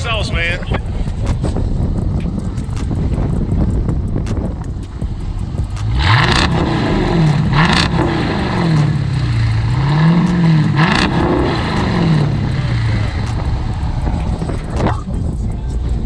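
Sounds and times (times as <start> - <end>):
car engine revving: 0.5 - 16.0.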